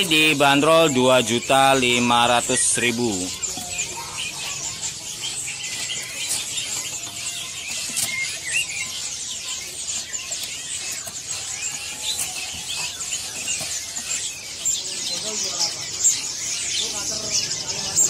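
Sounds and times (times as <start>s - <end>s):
songbirds chirping and twittering: 0.0s - 18.0s.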